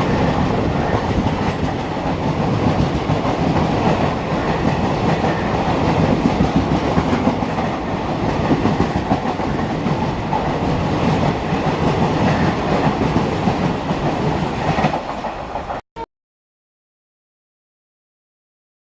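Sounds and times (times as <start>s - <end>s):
train wheels clattering: 0.0s - 15.8s.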